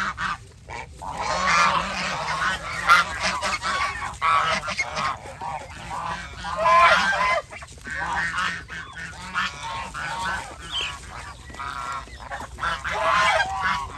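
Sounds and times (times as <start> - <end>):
geese honking: 0.0 - 13.9.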